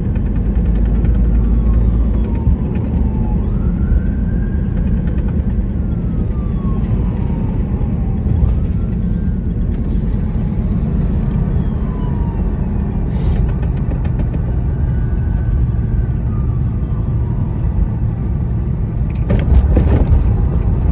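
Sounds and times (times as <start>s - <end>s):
car low rumble: 0.0s - 20.9s.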